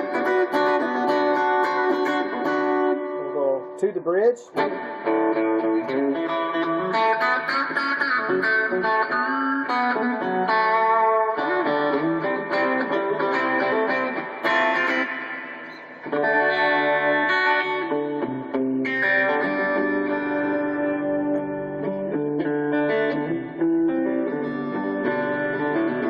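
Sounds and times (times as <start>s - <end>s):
clean electric guitar playing: 0.0s - 26.0s.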